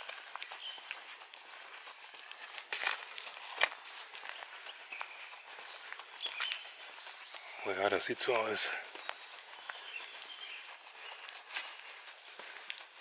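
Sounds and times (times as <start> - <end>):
faint bird chirps: 0.0 - 12.6
footsteps crunching on dry track: 0.0 - 13.0.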